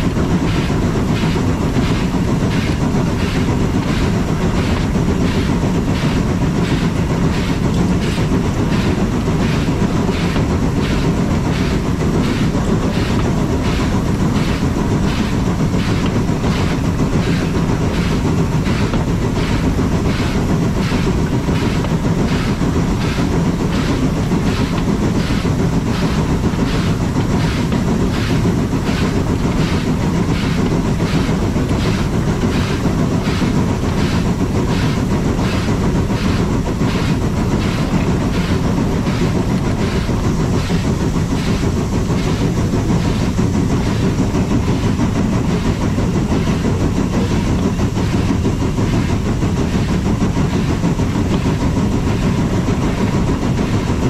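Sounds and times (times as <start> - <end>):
steam train running on track: 0.0 - 54.0.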